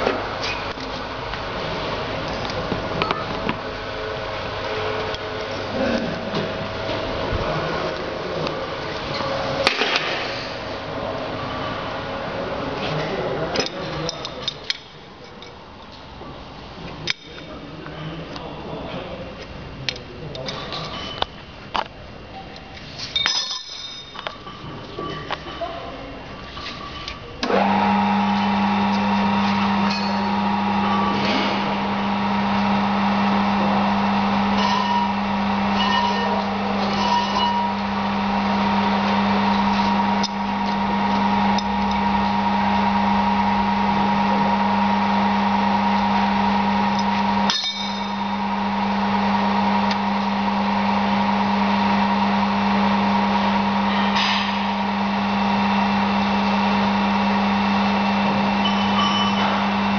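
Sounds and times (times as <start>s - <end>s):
lathe electric hum: 0.0s - 14.4s, 26.2s - 59.9s.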